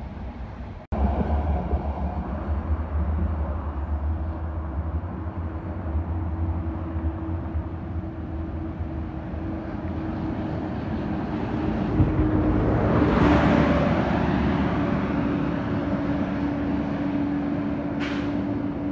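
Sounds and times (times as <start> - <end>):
diesel bus approaching: 0.0 - 18.9
low traffic rumble: 0.0 - 18.9.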